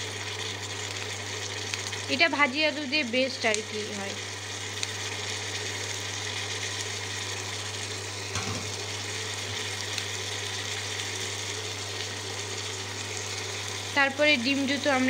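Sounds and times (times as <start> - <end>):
low electrical hum: 0.0 - 15.0
vegetables sizzling in oil: 0.0 - 15.0.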